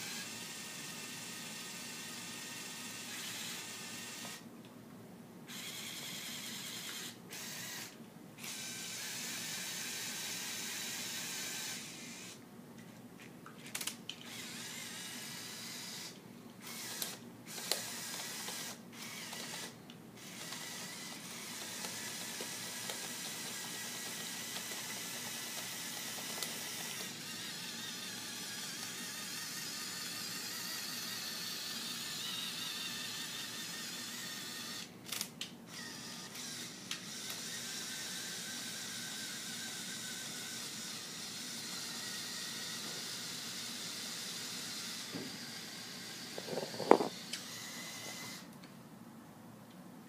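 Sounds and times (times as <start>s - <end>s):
toy motors and gears whirring: 0.0s - 4.4s, 5.5s - 12.4s, 13.6s - 48.5s.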